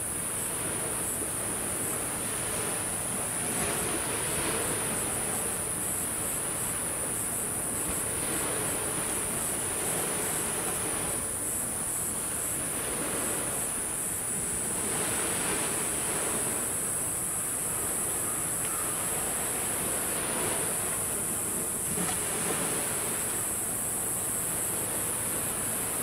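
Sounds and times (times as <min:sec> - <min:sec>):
high-pitched insect trill: 0:00.0 - 0:26.0
sea waves washing onto shore: 0:00.0 - 0:26.0.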